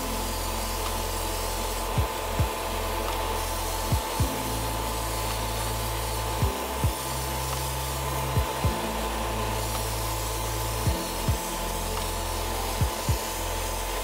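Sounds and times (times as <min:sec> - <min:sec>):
electronic music with kick drum: 0:00.0 - 0:07.8, 0:08.4 - 0:09.2, 0:10.8 - 0:14.0
rushing air hiss: 0:00.0 - 0:14.0.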